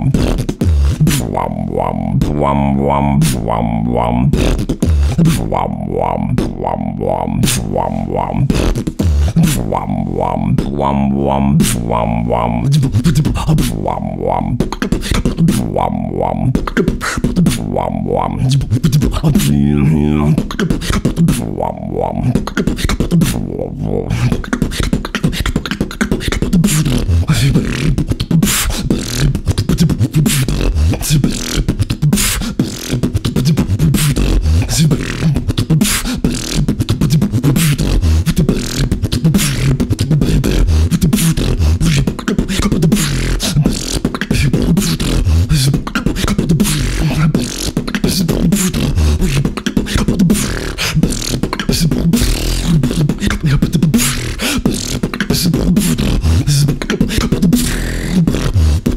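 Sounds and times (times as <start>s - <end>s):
human beatbox: 0.0s - 58.9s.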